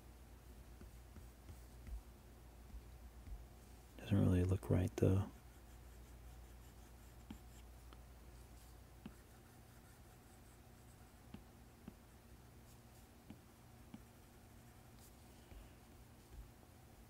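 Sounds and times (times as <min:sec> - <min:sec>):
low room hiss: 0:00.0 - 0:17.0.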